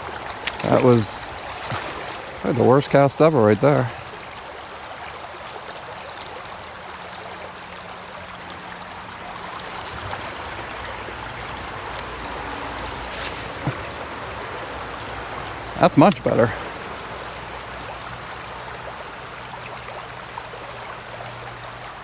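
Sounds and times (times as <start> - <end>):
creek water running: 0.0 - 22.0.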